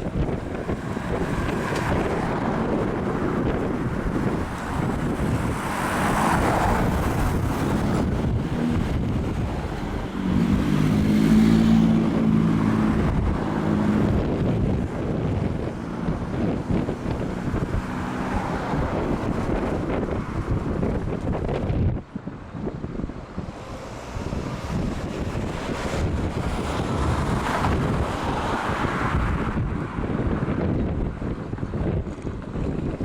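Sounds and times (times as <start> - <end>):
vehicle engine hum passing: 0.0 - 33.0
wind buffeting microphone: 0.0 - 33.0.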